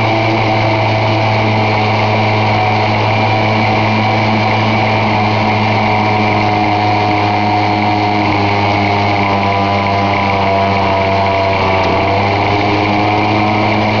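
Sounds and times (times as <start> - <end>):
log splitter boring into log: 0.0 - 14.0.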